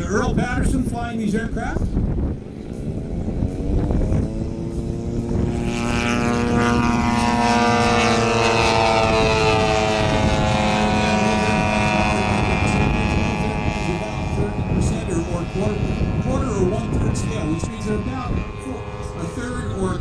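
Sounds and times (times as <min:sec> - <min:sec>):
model plane propeller engines droning: 0:00.0 - 0:20.0.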